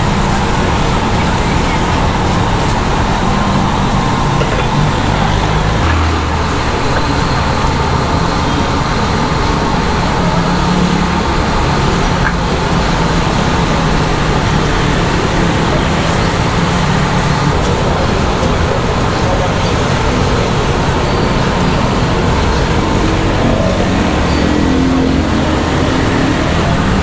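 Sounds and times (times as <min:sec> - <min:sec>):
road traffic engines humming: 0:00.0 - 0:27.0.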